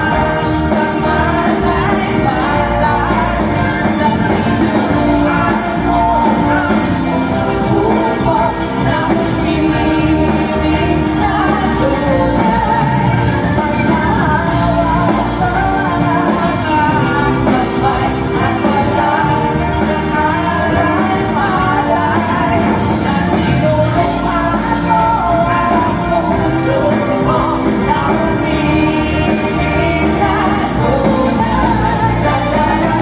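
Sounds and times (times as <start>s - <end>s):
live pop song with singer and band: 0.0s - 33.0s.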